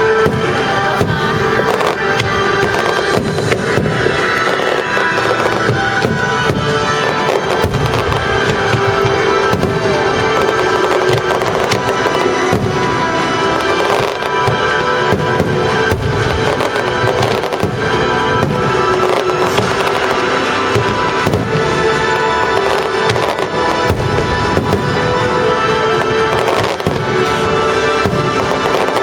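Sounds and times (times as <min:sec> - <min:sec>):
fireworks bursting: 0:00.0 - 0:29.0
loud orchestral music: 0:00.0 - 0:29.0.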